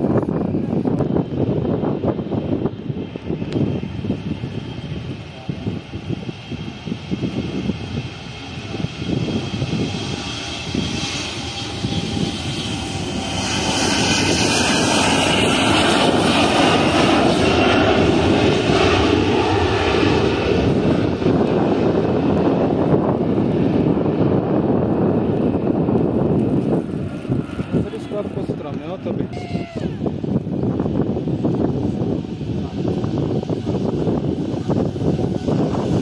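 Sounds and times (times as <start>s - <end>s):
airliner engines rumbling: 0.0s - 36.0s.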